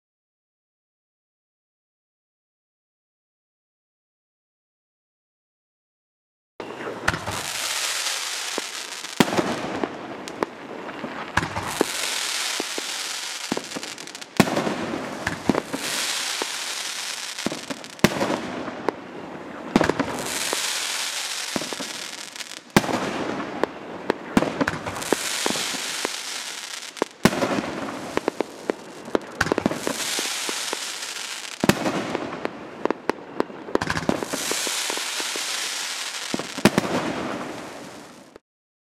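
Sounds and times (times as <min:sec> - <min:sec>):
firework bangs: 0:06.7 - 0:38.4
firework hissing and crackling: 0:06.7 - 0:38.4.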